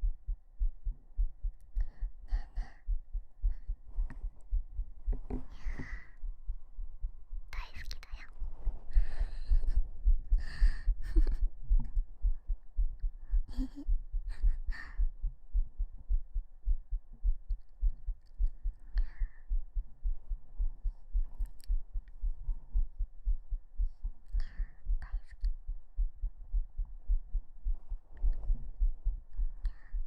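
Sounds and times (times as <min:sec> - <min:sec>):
heartbeat thumps: 0:00.0 - 0:30.0.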